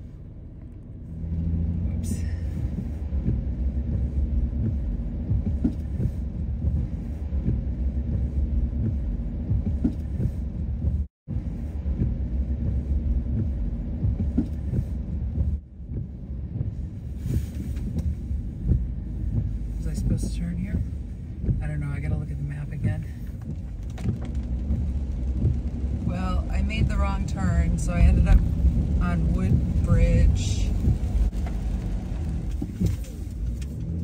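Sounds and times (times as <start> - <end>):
car cabin rumble: 0.0 - 34.0
knocks and bumps: 2.6 - 11.1, 11.9 - 34.0.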